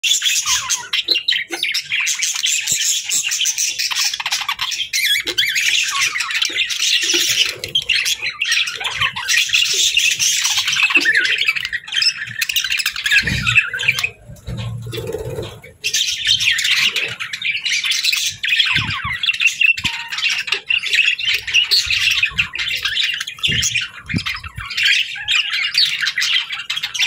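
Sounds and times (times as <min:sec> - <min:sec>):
budgerigars chirping and chattering: 0:00.0 - 0:27.0.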